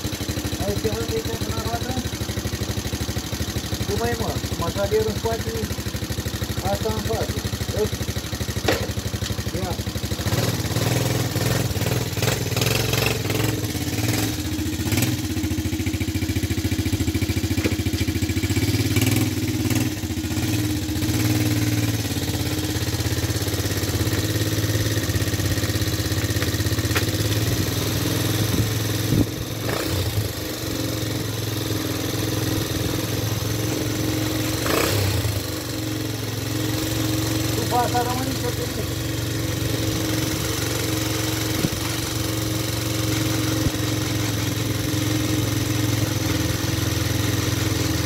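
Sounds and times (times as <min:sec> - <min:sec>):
quad engine idling: 0:00.0 - 0:48.0.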